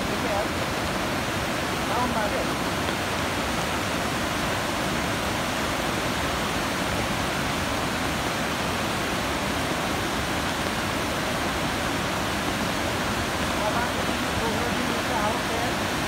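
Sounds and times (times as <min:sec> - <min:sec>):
flood water rushing: 0:00.0 - 0:16.0.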